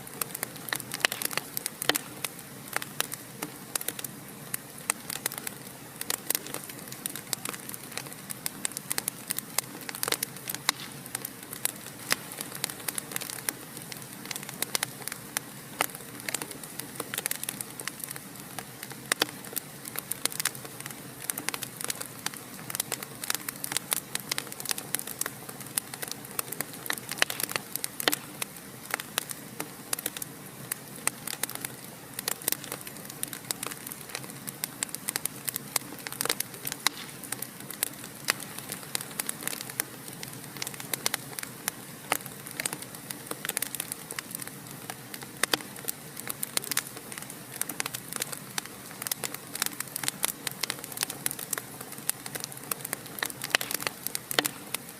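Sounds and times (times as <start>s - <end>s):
fireplace fire crackling: 0.0s - 54.9s.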